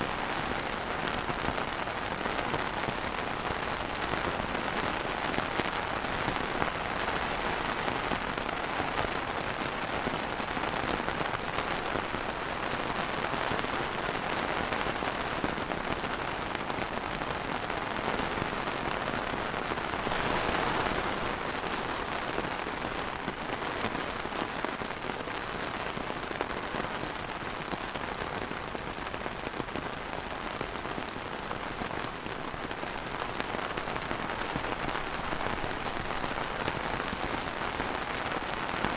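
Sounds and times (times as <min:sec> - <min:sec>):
rain falling on a surface: 0:00.0 - 0:38.9.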